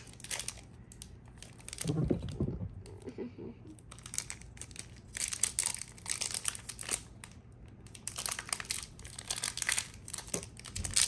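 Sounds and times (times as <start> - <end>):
foil wrapper crinkling: 0.0 - 2.0, 3.8 - 11.0.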